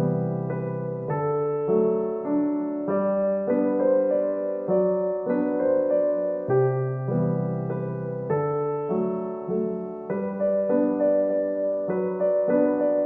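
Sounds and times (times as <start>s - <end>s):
gentle electric piano chords: 0.0s - 13.0s.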